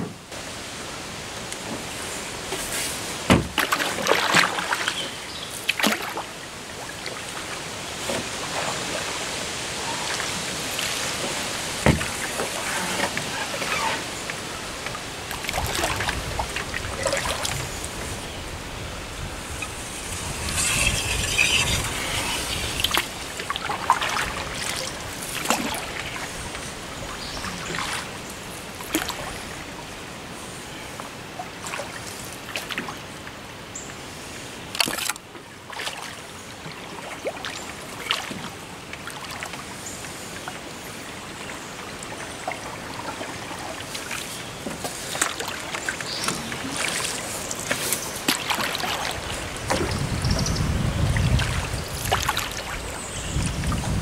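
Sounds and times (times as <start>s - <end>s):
paddle swishing water: 0.0s - 33.2s, 34.0s - 54.0s.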